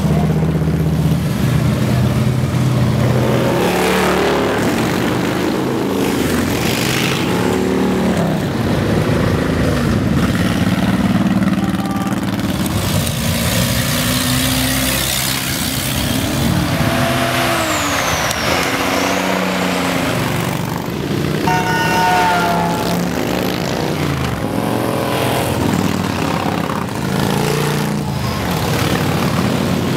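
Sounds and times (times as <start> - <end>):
motorcycles rumbling past: 0.0 - 29.9
riders revving engines: 0.0 - 29.9.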